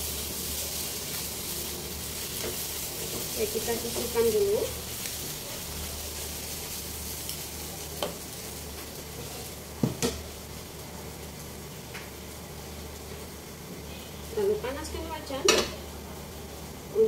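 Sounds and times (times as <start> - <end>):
gas stove burner hissing: 0.0 - 17.0.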